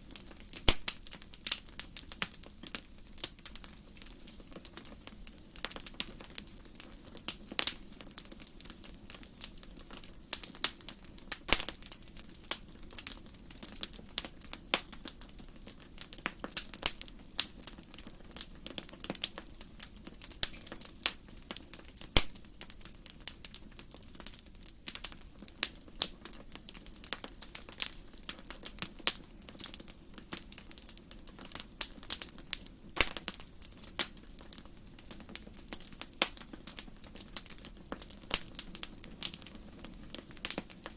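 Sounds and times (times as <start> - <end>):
low steady hiss: 0.0 - 40.9
wood fire crackling and popping: 0.0 - 40.9.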